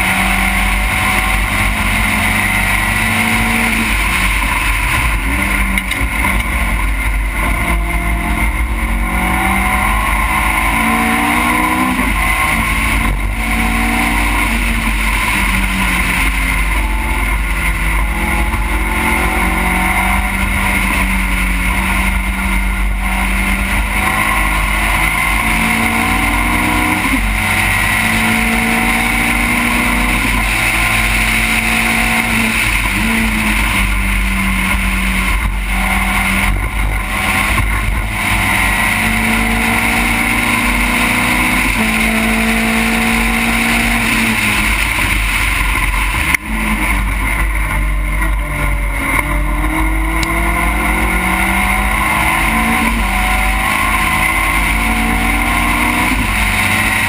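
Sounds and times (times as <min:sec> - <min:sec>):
race car engine revving: 0:00.0 - 0:57.0
wind and road rumble: 0:00.0 - 0:57.0.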